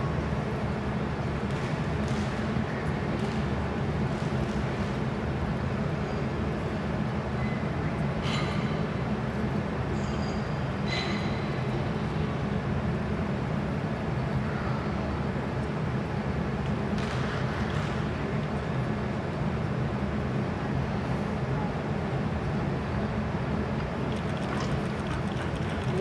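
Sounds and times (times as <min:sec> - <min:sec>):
low hum of sports hall: 0:00.0 - 0:26.0.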